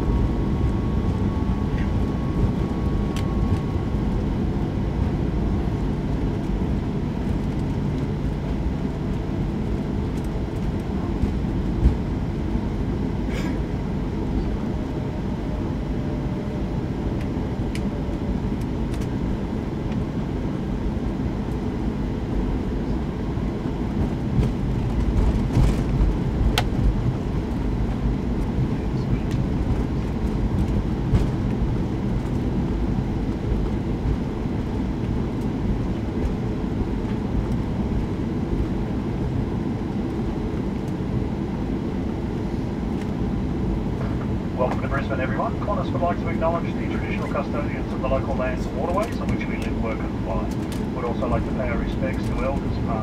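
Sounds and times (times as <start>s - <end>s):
aircraft cabin rumble taxiing: 0.0s - 53.0s.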